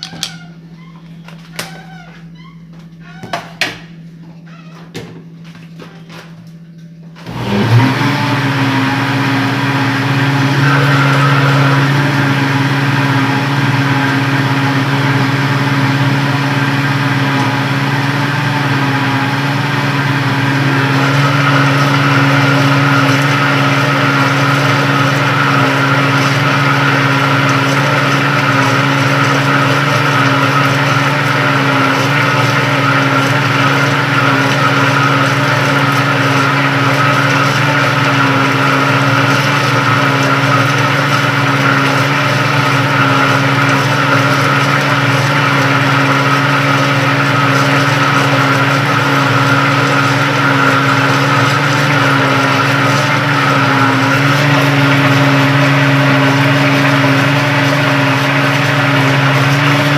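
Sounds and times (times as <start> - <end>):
blender motor running: 7.2 - 59.9.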